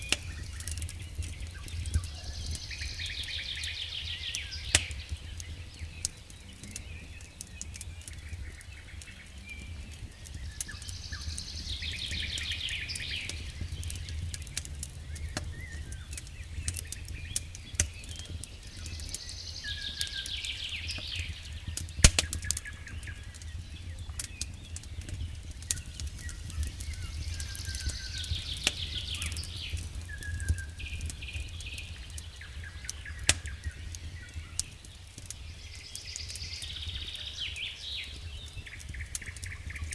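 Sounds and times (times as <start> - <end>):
songbird trilling and chirping: 0.0 - 34.7, 35.4 - 39.9
campfire crackling and popping: 0.0 - 39.9.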